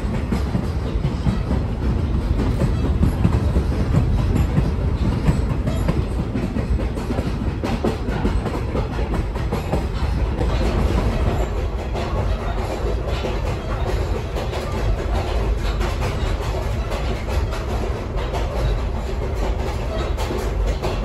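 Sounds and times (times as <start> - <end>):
rail car rumbling: 0.0 - 21.0
steel wheels clanking on rails: 0.0 - 21.0.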